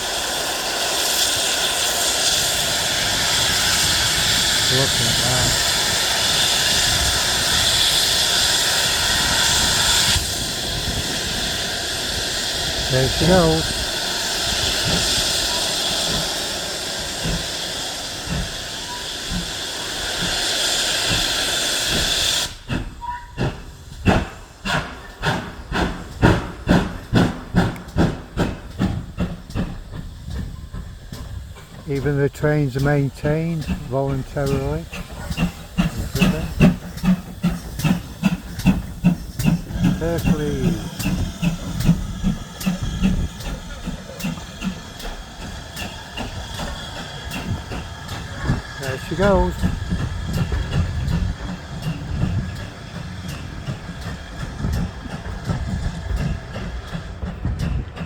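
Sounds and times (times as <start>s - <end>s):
loud hiss of steam: 0.0s - 58.0s
steam locomotive exhaust chuffing: 0.0s - 58.0s.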